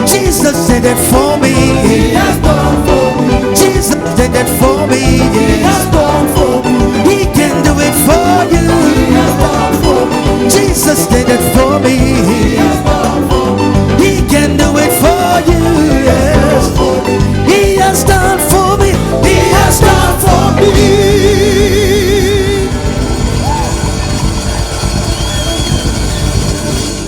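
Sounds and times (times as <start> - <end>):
live band playing gospel music: 0.0 - 27.0.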